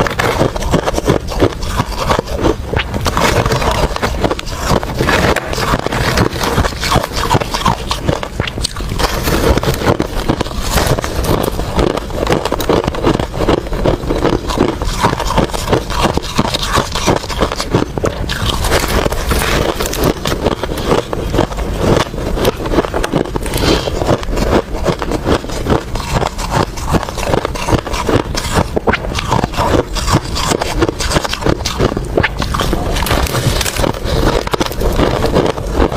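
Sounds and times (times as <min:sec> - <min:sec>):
ice being crunched and chewed: 0:00.0 - 0:35.9.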